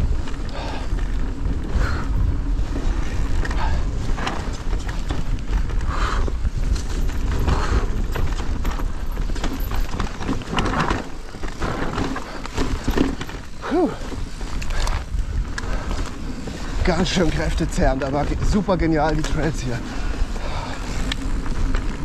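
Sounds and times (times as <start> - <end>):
bike rattling over rough trail: 0.0 - 22.0
wind rumble on microphone: 0.0 - 22.0.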